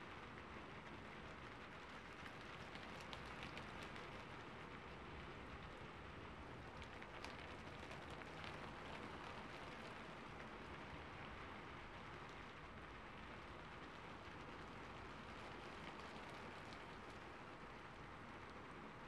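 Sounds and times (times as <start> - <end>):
steady hiss of rain: 0.0 - 19.0
sharp rain drop ticks: 0.1 - 19.0.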